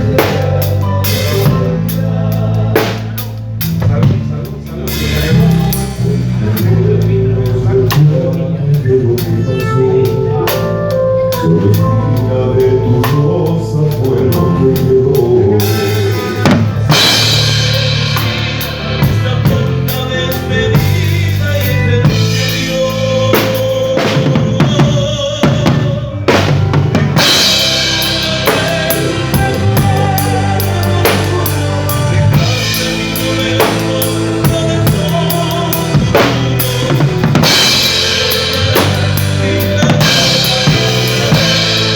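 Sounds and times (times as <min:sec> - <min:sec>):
band playing through speakers: 0:00.0 - 0:41.9
steady bass notes: 0:00.0 - 0:41.9.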